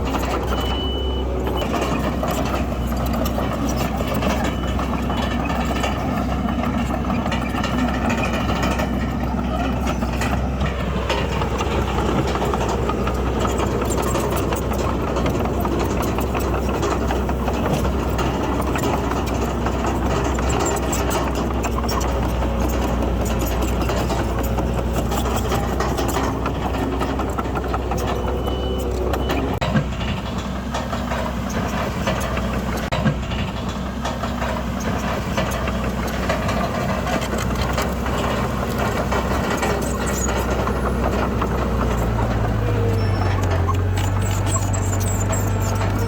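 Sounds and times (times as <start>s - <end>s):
diesel construction machinery running: 0.0s - 46.0s.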